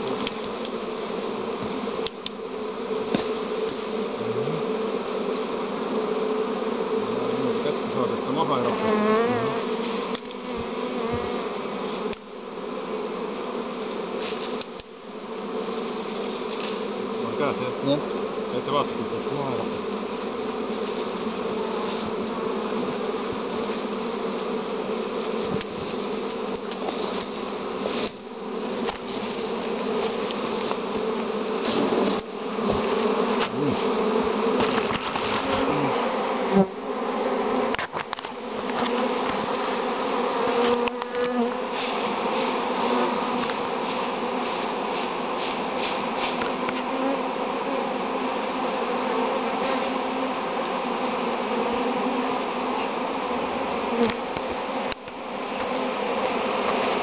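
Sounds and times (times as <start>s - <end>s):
honeybee swarm buzzing: 0.0s - 57.0s.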